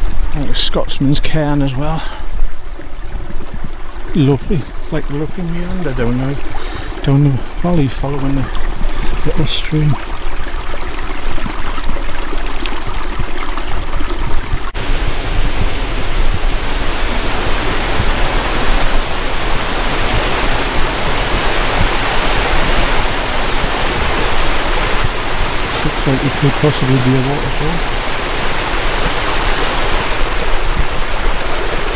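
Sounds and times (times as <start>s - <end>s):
stream water rushing: 0.0s - 31.9s.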